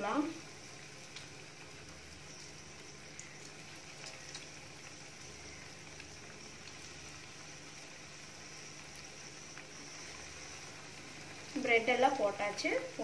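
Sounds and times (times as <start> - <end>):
bread frying in hot oil: 0.0 - 13.0.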